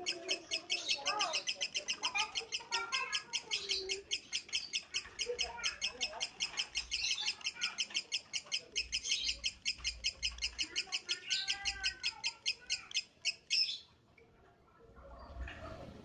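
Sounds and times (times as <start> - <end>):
lovebird chirping: 0.0 - 14.0.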